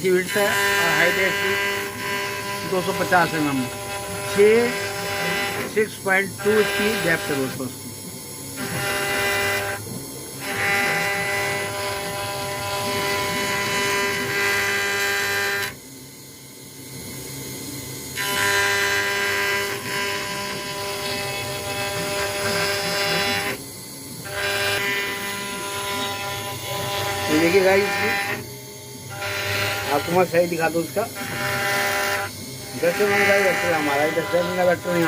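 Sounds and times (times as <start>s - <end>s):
end mill cutting acrylic: 0.0s - 15.8s, 18.0s - 35.0s
router spindle whining: 0.0s - 35.0s.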